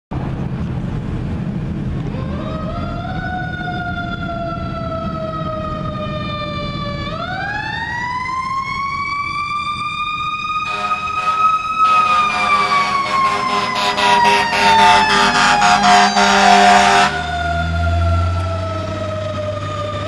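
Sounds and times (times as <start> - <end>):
low traffic rumble: 0.1 - 20.0
mechanical siren wailing: 2.1 - 20.0.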